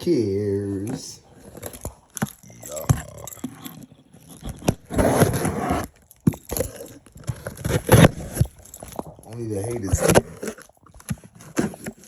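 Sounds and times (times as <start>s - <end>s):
packaging crinkling and scraping: 0.0s - 12.0s
packaging rustling: 0.3s - 12.0s.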